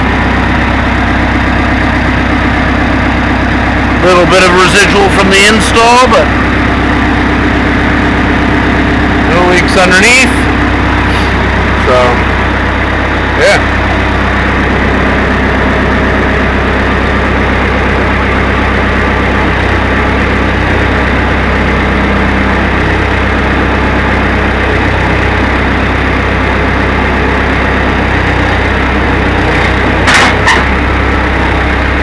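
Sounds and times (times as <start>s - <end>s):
backhoe engine idling: 0.0s - 32.0s.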